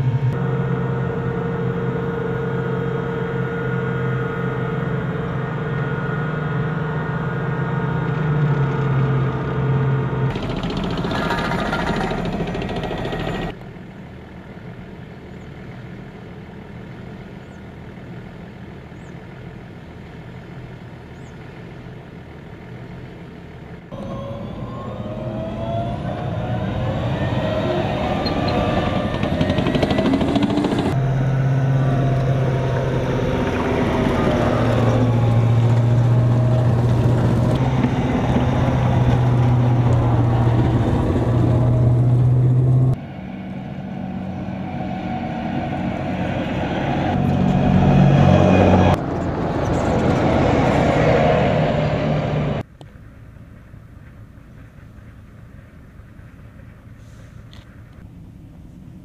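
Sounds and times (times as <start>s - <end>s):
armoured vehicle passing: 0.0s - 59.0s
tank engine and tracks: 0.0s - 59.0s
turbine whine: 0.0s - 59.0s.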